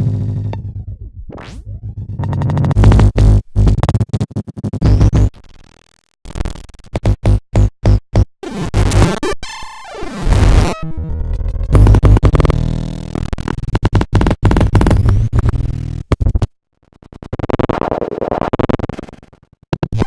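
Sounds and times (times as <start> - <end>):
chopped stuttering electronic music: 0.0 - 7.4, 8.4 - 19.3.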